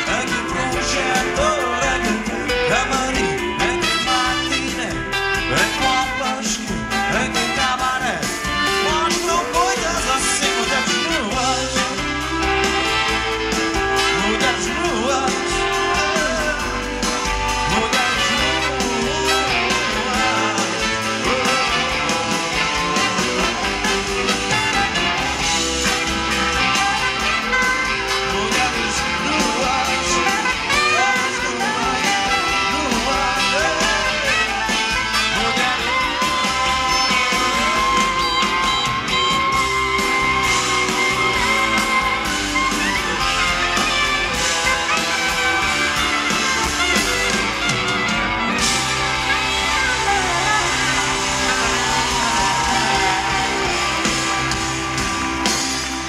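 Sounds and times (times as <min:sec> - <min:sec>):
drums: 0:00.0 - 0:56.0
electric guitar: 0:00.0 - 0:56.0
pop-rock band playing: 0:00.0 - 0:56.0.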